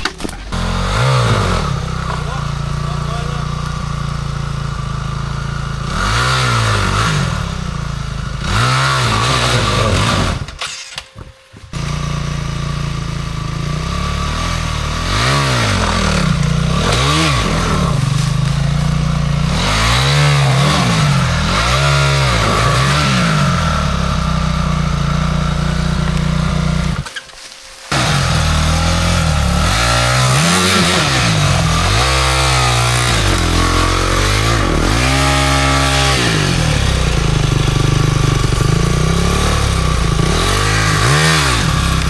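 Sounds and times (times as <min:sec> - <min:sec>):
dirt bike engine revving: 0:00.0 - 0:10.8, 0:11.7 - 0:42.0.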